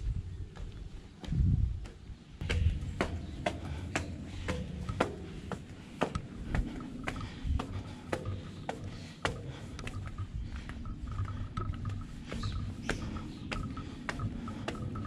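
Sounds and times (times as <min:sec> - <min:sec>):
footsteps on metal stairs: 0:00.4 - 0:15.0.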